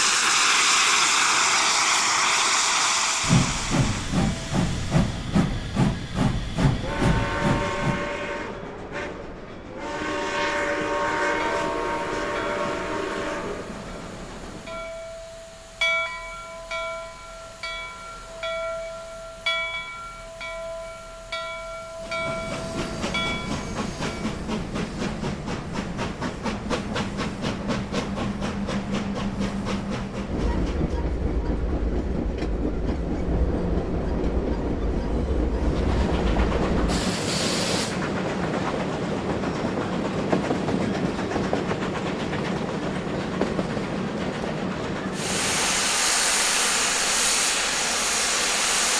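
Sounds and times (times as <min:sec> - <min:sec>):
train rumble: 0:00.0 - 0:48.9
train wheels clicking on rails: 0:00.0 - 0:48.9.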